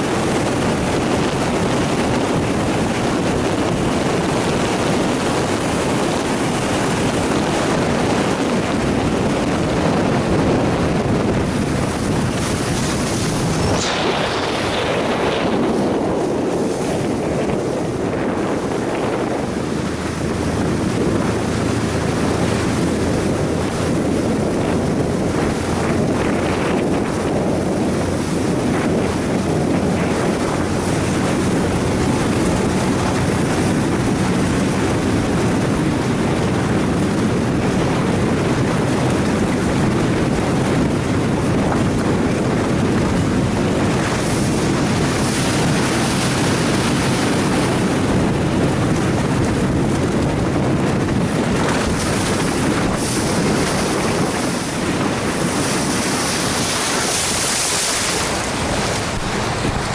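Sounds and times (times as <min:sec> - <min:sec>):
boat motor humming: 0:00.0 - 0:59.9
water streaming past boat: 0:00.0 - 0:59.9
wind buffeting microphone: 0:00.0 - 0:59.9.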